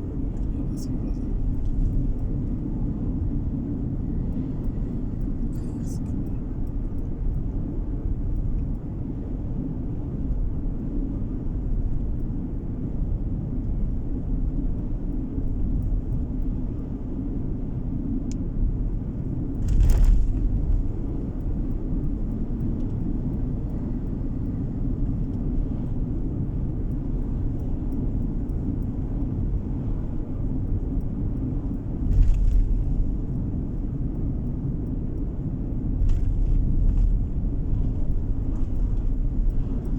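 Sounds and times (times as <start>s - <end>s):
road and engine noise in car: 0.0s - 39.9s.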